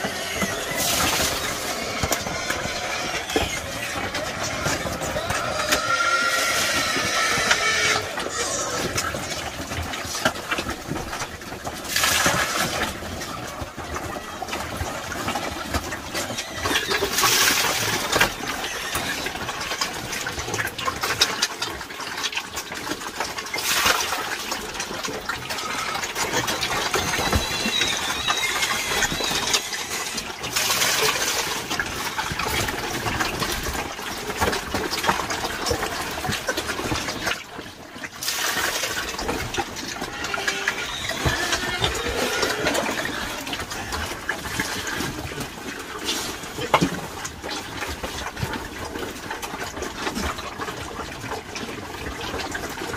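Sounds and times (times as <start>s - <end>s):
pigs slurping and chomping feed: 0.0s - 52.9s
water splashing into tub: 0.0s - 52.9s.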